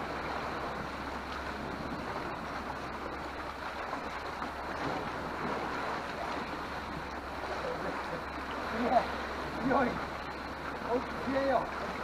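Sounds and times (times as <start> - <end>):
sea waves washing against rocks: 0.0 - 12.0
wind: 0.0 - 12.0.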